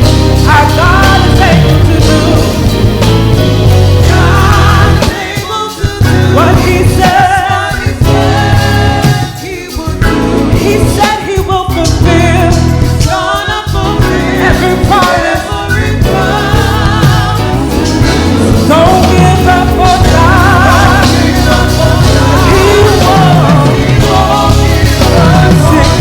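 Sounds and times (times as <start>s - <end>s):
band with heavy bass line: 0.0s - 26.0s
gospel group singing: 0.0s - 26.0s.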